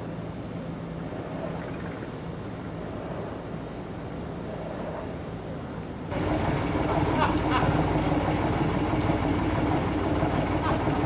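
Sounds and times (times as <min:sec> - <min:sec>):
boat engines humming: 0:00.0 - 0:11.0.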